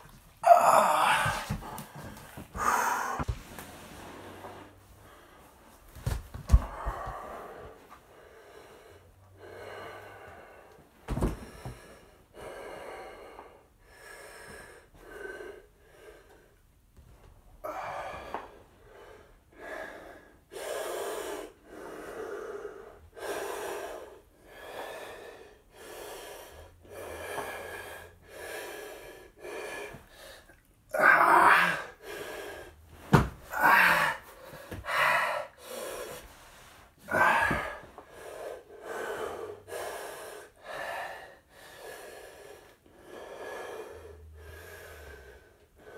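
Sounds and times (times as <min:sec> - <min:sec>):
man breathing hard: 0:00.5 - 0:03.3, 0:06.5 - 0:16.6, 0:17.6 - 0:30.6, 0:31.5 - 0:45.9.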